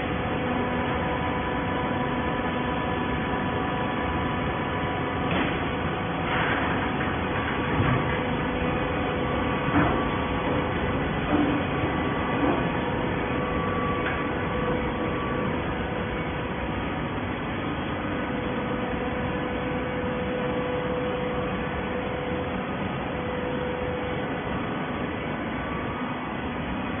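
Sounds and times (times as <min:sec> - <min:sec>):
baler machine drone: 0:00.0 - 0:27.0.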